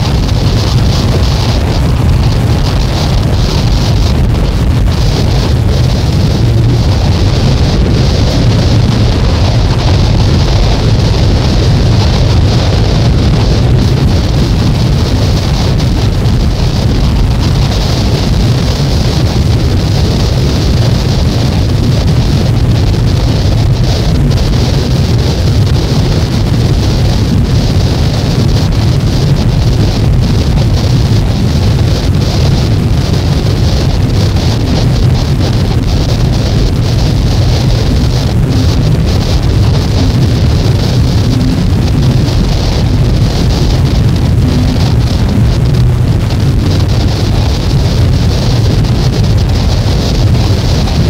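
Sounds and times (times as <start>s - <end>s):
dense noise music: 0.0s - 51.0s.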